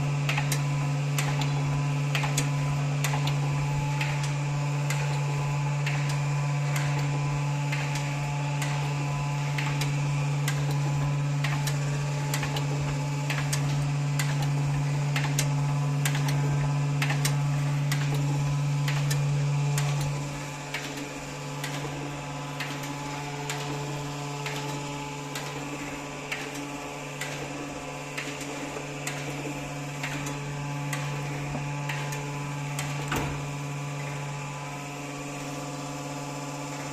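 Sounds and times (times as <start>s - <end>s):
hydraulic machine humming: 0.0s - 36.9s.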